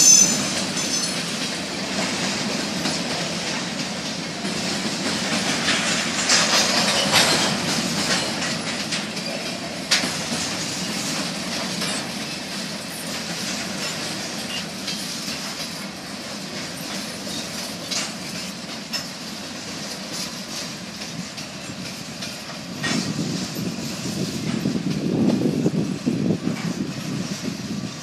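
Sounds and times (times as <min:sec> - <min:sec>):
clacks at rail joints: 0:00.0 - 0:28.0
steel wheels rushing on rail: 0:00.0 - 0:28.0
train low rumble: 0:00.0 - 0:28.0.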